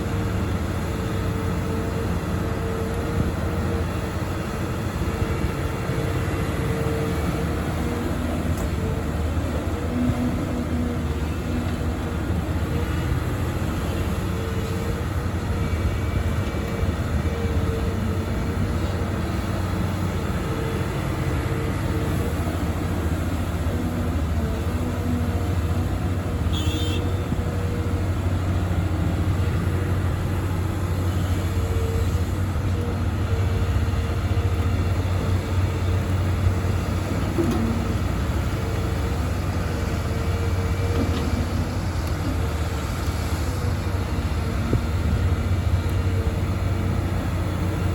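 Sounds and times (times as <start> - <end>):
excavator engine and hydraulics: 0.0 - 47.9.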